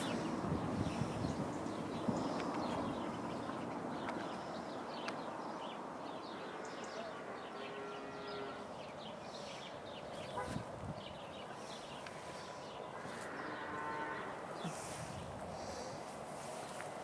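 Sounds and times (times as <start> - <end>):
small birds chirping: 0.0 - 16.9
outdoor background hiss: 0.0 - 17.0.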